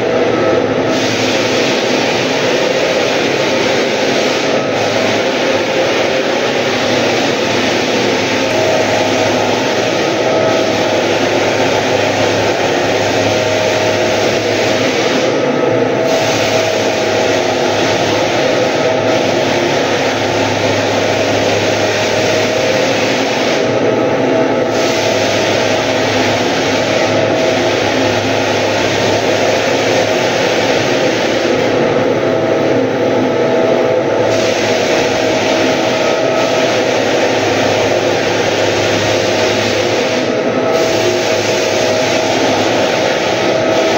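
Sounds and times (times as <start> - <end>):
floor sander running: 0.0 - 43.9.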